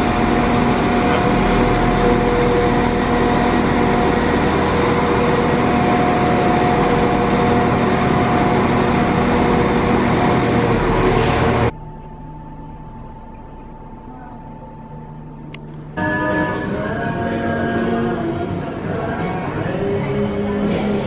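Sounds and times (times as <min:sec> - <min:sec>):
train engine hum and rumble: 0:00.0 - 0:21.0.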